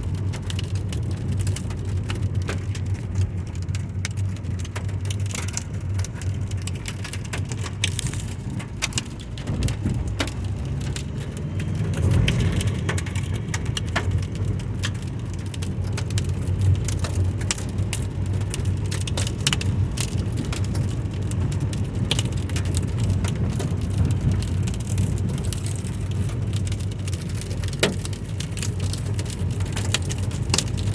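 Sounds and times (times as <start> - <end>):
low rumble: 0.0 - 30.9.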